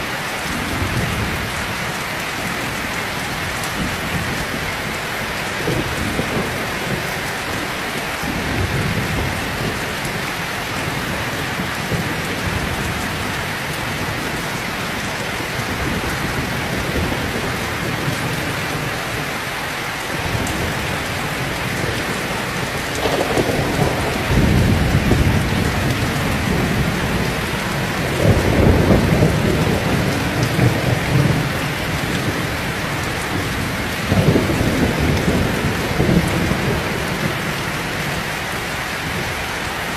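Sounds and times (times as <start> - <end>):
thunder rumbling: 0.0 - 19.4, 20.1 - 39.5
heavy rain pouring: 0.0 - 39.9.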